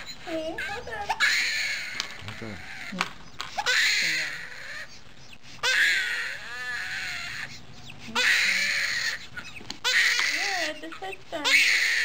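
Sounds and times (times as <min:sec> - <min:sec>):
newborn baby crying: 0:00.0 - 0:12.0.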